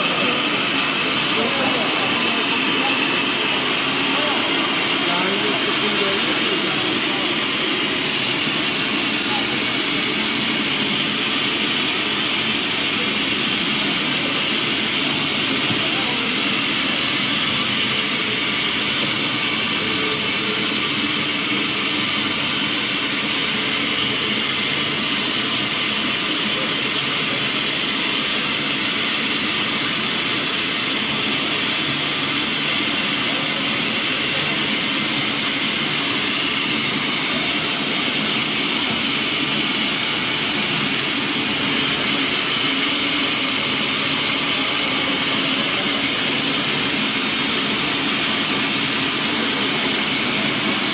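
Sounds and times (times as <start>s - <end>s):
machine hissing and whining: 0.0s - 50.9s.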